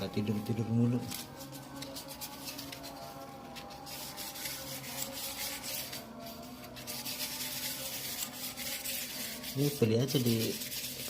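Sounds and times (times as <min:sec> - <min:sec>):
scrubbing on metal: 0:01.4 - 0:11.0.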